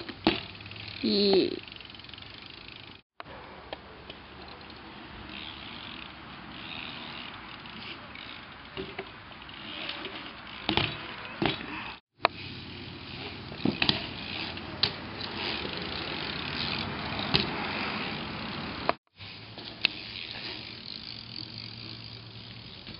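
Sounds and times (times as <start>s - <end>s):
bike rolling and rattling: 0.0s - 22.9s.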